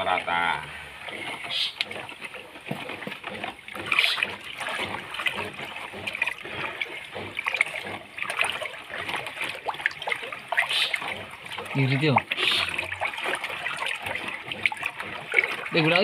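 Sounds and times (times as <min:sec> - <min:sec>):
water sloshing in a plastic bucket: 0:00.0 - 0:16.0.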